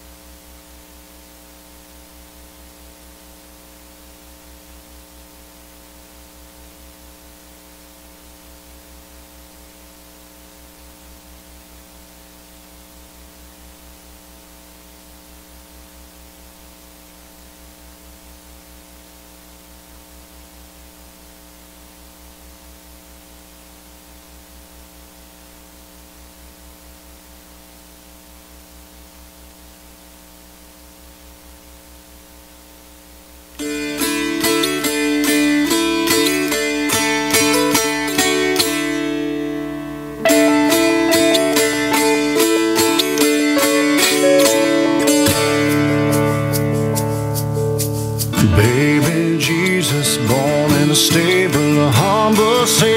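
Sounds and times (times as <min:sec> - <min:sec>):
electrical mains hum: 0:00.0 - 0:52.9
sound system hiss: 0:00.0 - 0:52.9.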